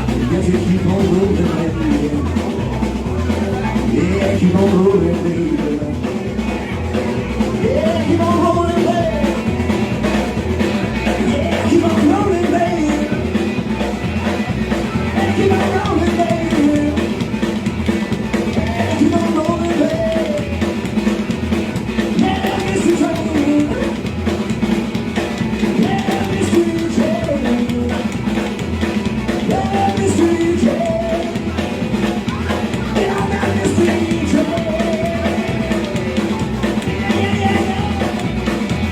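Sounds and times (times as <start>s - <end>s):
electric guitar bending phrases: 0.0s - 38.9s
rockabilly band playing: 0.0s - 38.9s.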